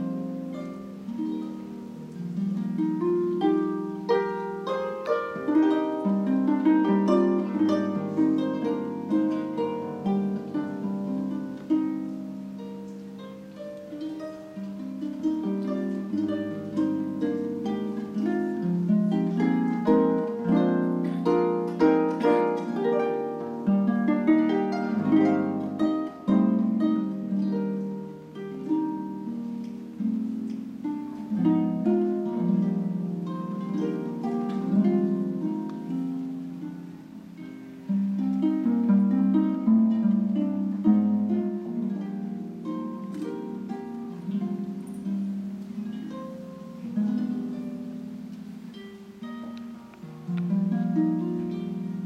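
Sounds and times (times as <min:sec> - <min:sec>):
harp playing: 0:00.0 - 0:52.0.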